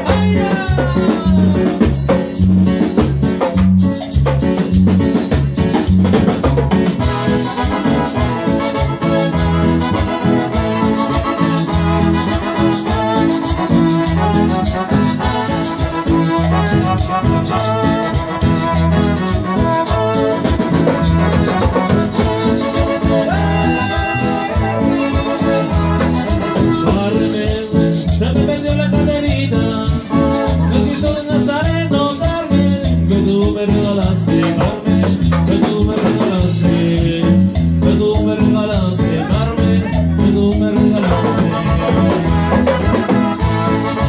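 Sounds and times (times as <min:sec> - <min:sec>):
band playing latin dance music: 0:00.0 - 0:44.0.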